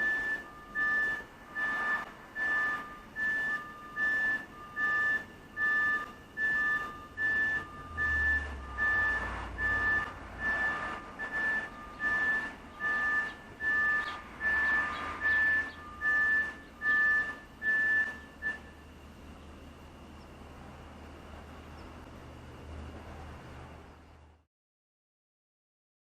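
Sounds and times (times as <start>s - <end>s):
backup alarms beeping: 0.0s - 24.4s.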